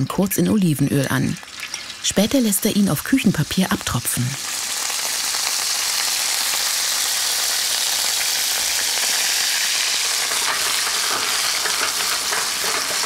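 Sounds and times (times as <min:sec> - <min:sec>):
food sizzling in oil: 0:00.0 - 0:13.0
sharp oil crackles: 0:00.0 - 0:13.0.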